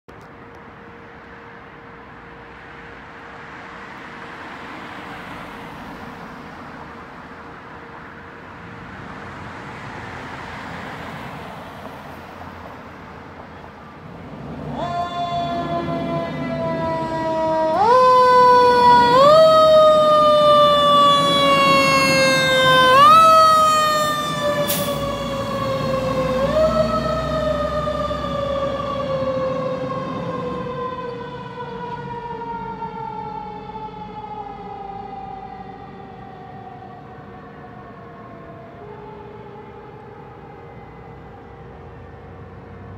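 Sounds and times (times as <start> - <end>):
fire engine siren: 0.1 - 42.9.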